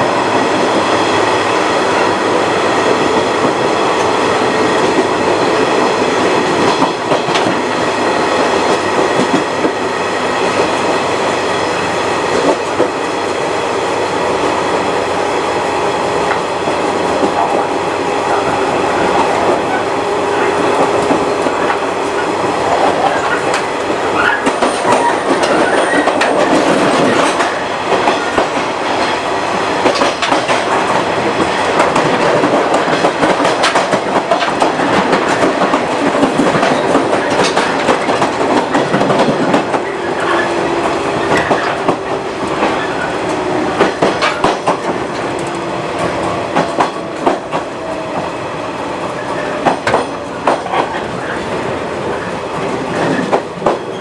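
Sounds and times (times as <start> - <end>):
wheel-on-rail rumble: 0.0 - 54.0
rail-joint clicks: 0.3 - 54.0.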